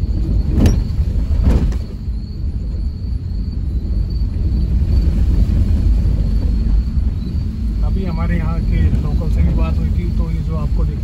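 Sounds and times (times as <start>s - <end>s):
car rumbling over rough road: 0.0s - 11.0s.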